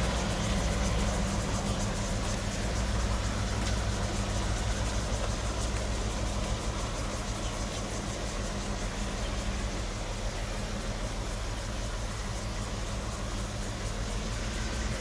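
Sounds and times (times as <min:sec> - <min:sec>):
hiss: 0:00.0 - 0:15.0
locomotive engine hum: 0:00.0 - 0:15.0.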